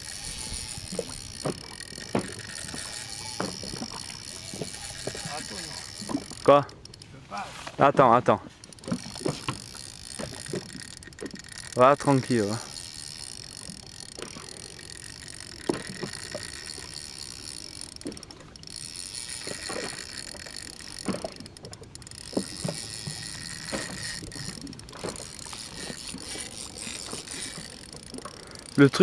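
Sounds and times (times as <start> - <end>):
fishing reel whirring: 0.0 - 7.2, 8.5 - 29.0.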